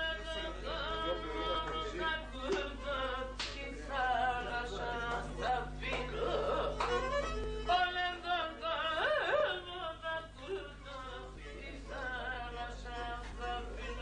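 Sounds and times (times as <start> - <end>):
man singing in a high voice: 0.0 - 6.8, 7.7 - 14.0.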